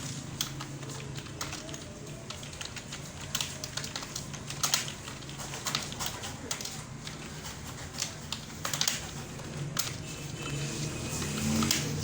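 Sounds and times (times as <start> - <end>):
keyboard typing: 0.0 - 12.0.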